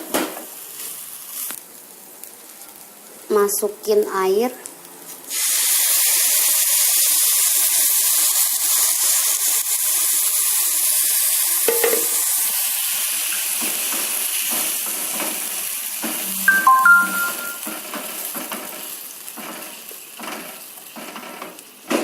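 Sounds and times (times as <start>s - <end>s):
water sizzling in hot pan: 0.0s - 22.0s.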